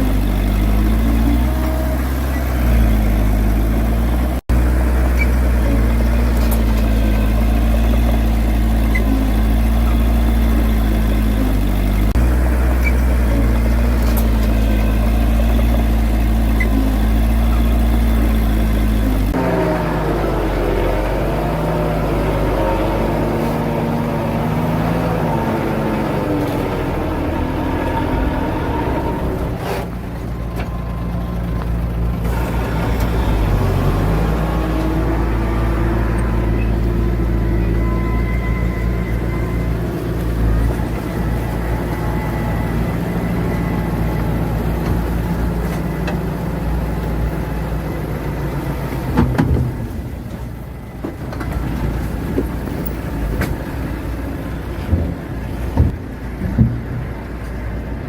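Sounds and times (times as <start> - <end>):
diesel engine working under load: 0.0 - 58.0.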